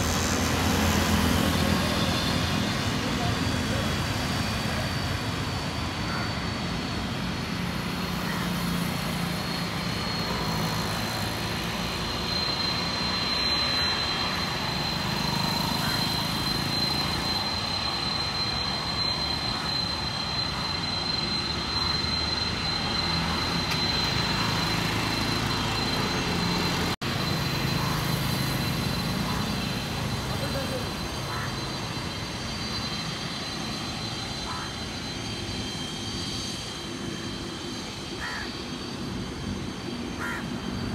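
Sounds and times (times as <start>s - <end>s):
jet engines rumbling and whining: 0.0s - 40.9s.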